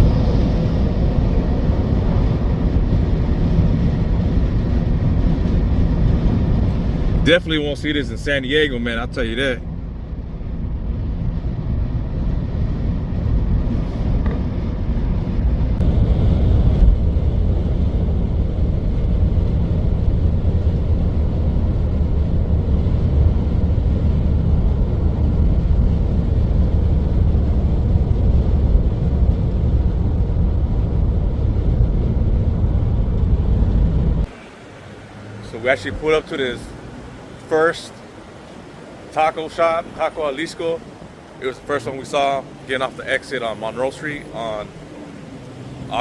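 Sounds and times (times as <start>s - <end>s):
car interior road noise: 0.0s - 46.0s.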